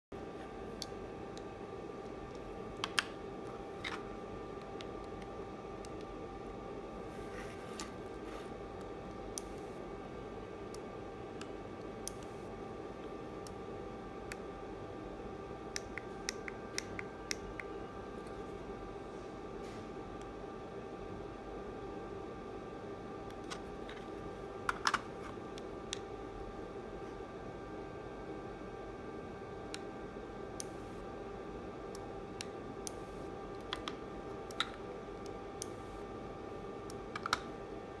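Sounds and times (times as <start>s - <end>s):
faint electrical hum: 0.1s - 38.0s.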